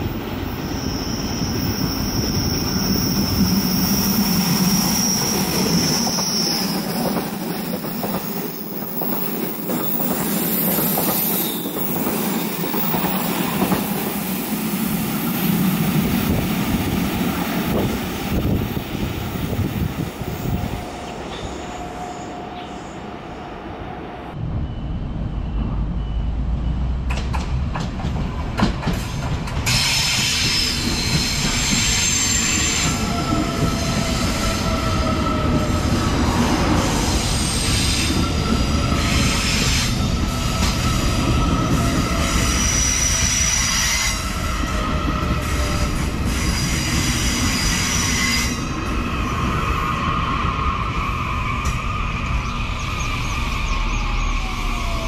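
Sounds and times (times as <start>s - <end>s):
train wheels rumbling: 0.0s - 55.0s
train wheels squealing: 0.4s - 15.7s, 20.2s - 23.1s, 24.5s - 27.0s, 28.9s - 55.0s.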